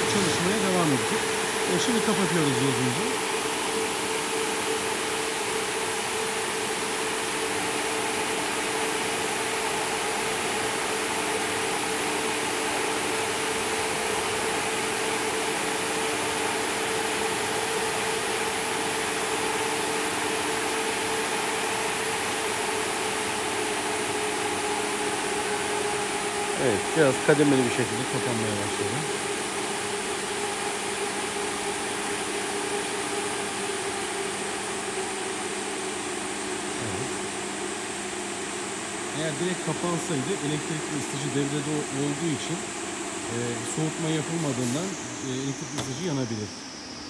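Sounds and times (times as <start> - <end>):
ventilation fans rushing air: 0.0 - 47.0.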